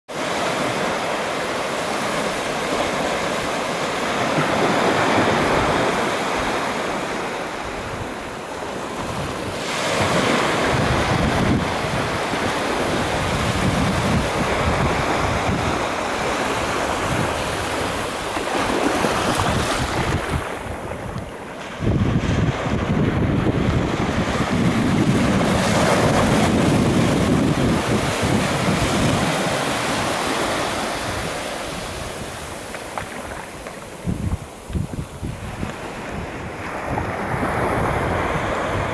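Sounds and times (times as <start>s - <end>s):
small waves washing on sand: 0.1s - 38.9s
wind buffeting microphone: 0.5s - 38.9s.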